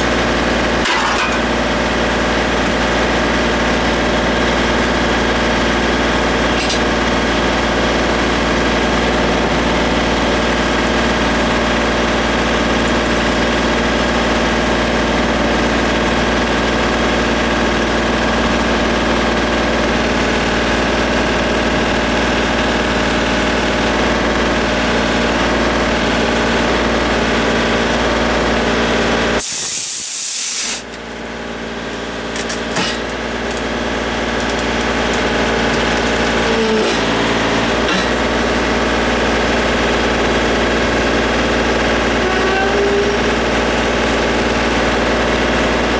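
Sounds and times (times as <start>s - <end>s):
engine running steadily: 0.0s - 45.9s.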